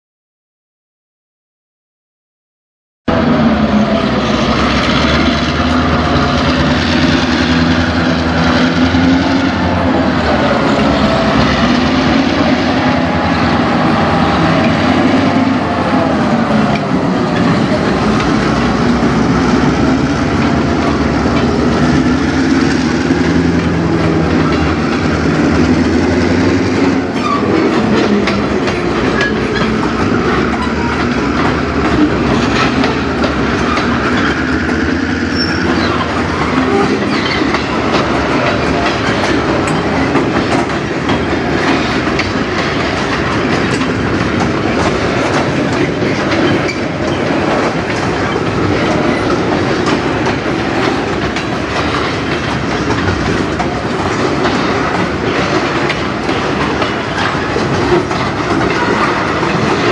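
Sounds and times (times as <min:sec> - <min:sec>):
diesel locomotive engines droning: 0:03.1 - 0:59.9
wheels clicking over rail joints: 0:04.0 - 0:59.9.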